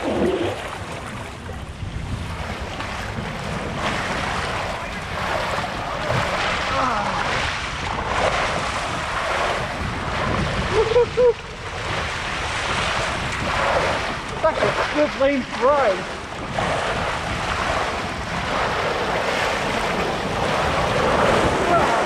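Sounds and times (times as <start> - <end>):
water rushing down a slide: 0.0 - 1.4, 2.3 - 22.0
wind buffeting microphone: 0.0 - 22.0.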